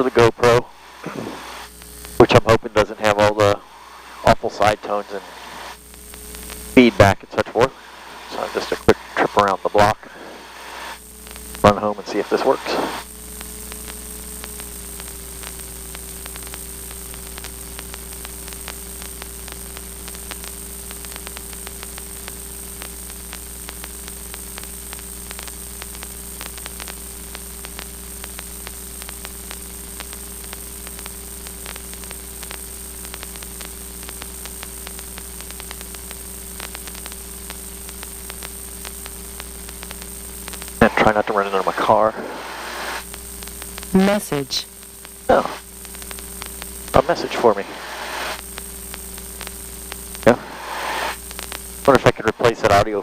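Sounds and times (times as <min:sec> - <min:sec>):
hiss and static: 0:00.0 - 0:53.0
low steady hum: 0:00.0 - 0:53.0
faint crackles: 0:00.6 - 0:53.0.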